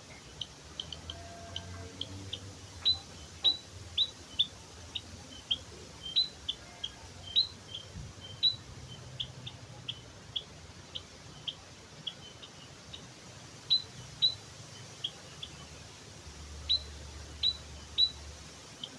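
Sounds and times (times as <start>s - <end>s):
bird high chip calls: 0.2s - 16.0s, 16.6s - 18.9s.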